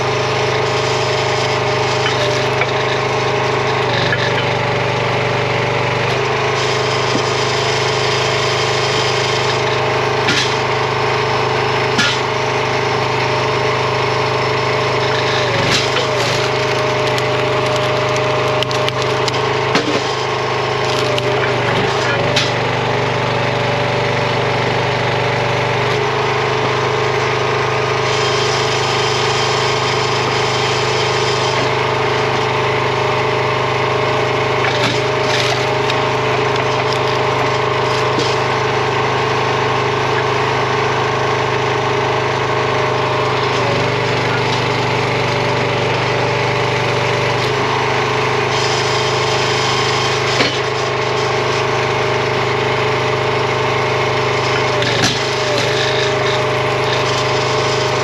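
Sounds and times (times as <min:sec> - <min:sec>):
small gas engine running: 0:00.0 - 0:58.0.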